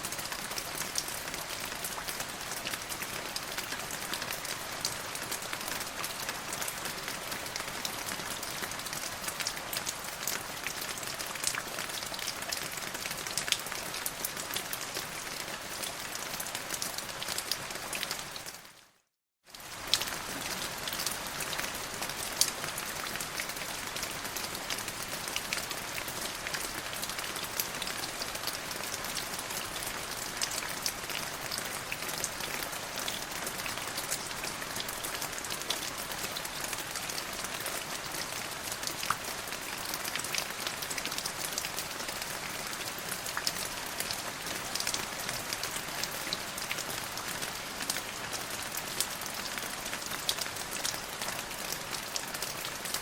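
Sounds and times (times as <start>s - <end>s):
rain on a hard surface: 0.0s - 53.0s.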